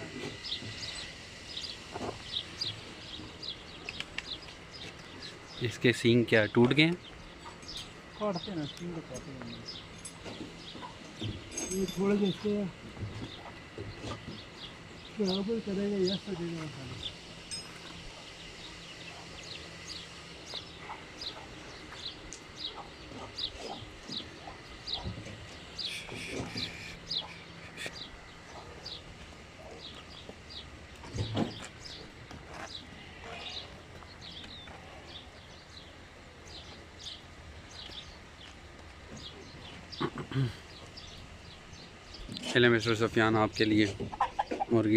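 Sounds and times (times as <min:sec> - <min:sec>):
birds chirping: 0:00.0 - 0:44.9
faint farmyard background noise: 0:00.0 - 0:44.9
steady low hum: 0:00.0 - 0:44.9.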